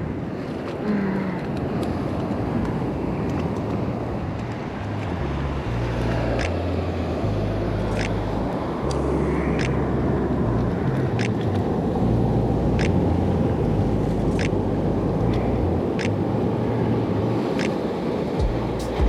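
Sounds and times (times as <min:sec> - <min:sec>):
surf rushing: 0:00.0 - 0:19.0
wind rumbling on microphone: 0:00.0 - 0:19.0.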